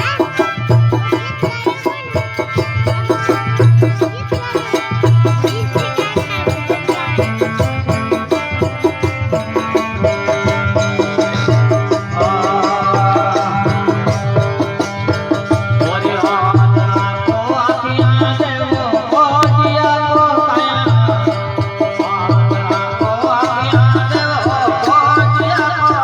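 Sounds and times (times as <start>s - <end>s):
hand drum rhythm: 0.0s - 26.0s.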